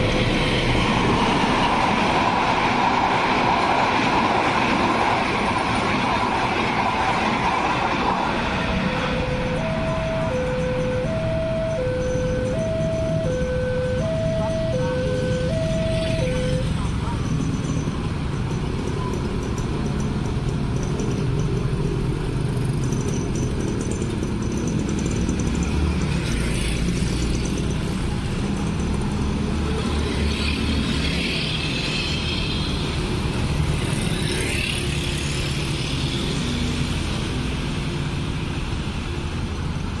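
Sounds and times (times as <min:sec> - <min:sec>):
scooters and cars driving past: 0:00.0 - 0:40.0.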